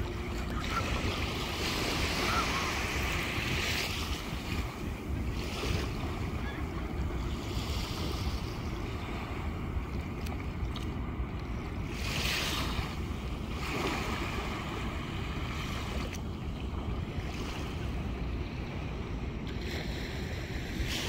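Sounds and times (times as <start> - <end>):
small waves lapping on shore: 0.0 - 21.0
wind rumble on microphone: 0.0 - 21.0.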